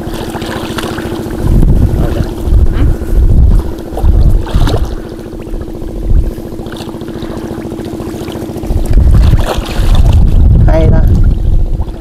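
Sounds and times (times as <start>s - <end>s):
small engine running: 0.0s - 12.0s
low rumbling gusts: 1.0s - 12.0s.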